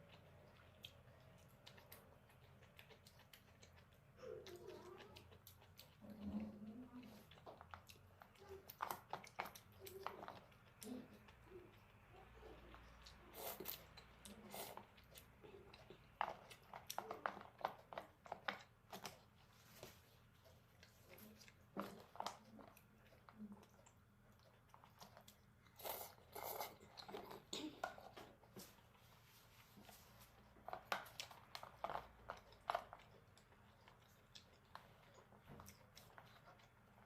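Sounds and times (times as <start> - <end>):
chewing and mouth smacks: 0.0 - 37.0.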